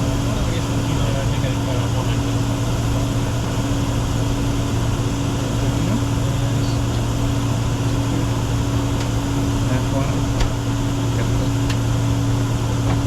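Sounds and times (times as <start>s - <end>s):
airflow rush in cockpit: 0.0s - 13.0s
jet engine and air-conditioning noise: 0.0s - 13.0s
steady low hums: 0.0s - 13.0s.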